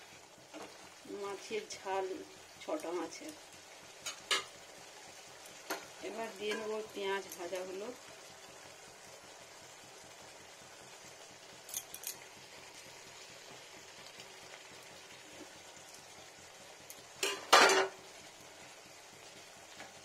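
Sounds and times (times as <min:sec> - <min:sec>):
curry simmering with soft sizzle: 0:00.0 - 0:20.0.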